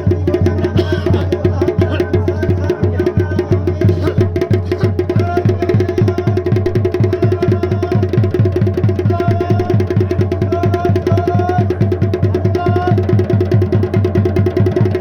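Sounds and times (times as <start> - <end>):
fast steady drumming: 0.0 - 15.0.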